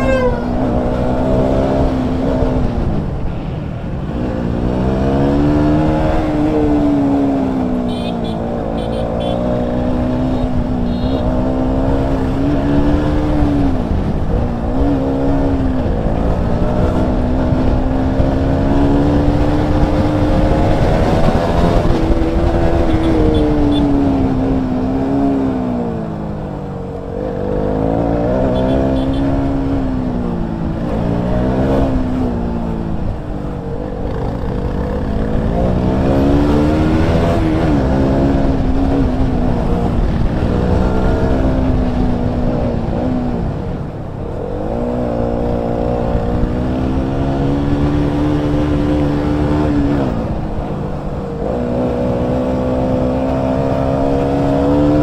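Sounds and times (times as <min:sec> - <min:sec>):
motorcycle engine revving: 0:04.4 - 0:55.0.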